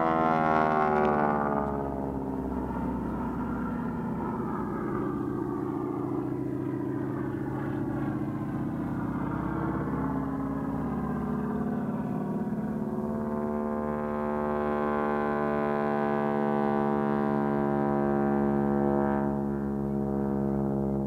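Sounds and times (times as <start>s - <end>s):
propeller plane droning overhead: 0.0s - 21.0s.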